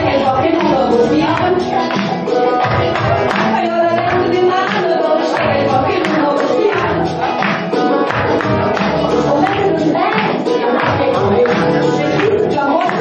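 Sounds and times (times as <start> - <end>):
amplified music with steady beat: 0.0 - 13.0
woman singing into microphone: 0.0 - 13.0.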